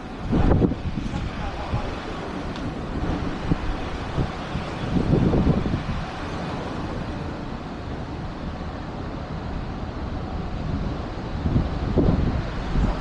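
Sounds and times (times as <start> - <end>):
vehicle low rumble: 0.0 - 13.0
wind noise on microphone: 0.0 - 13.0.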